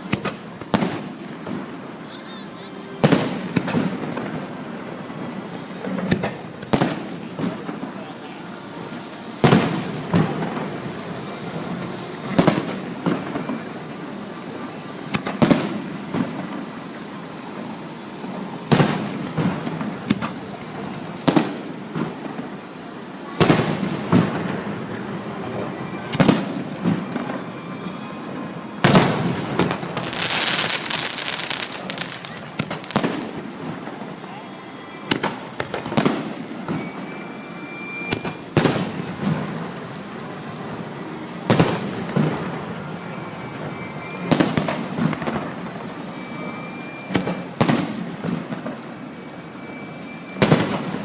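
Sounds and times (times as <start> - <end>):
fireworks bursting with bangs: 0.0 - 51.0
fireworks crackling: 0.0 - 51.0.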